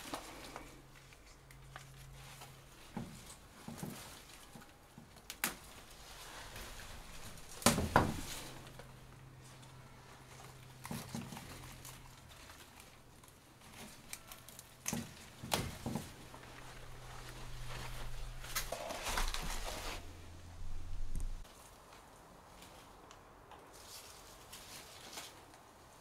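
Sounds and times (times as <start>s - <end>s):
stems snapping: 0.0s - 9.3s, 10.4s - 25.7s
faint low hum: 0.0s - 26.0s
plants rustling: 0.0s - 26.0s.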